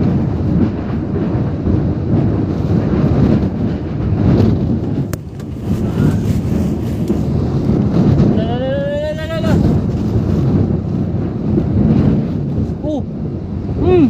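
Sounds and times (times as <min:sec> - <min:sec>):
strong wind buffeting: 0:00.0 - 0:14.0.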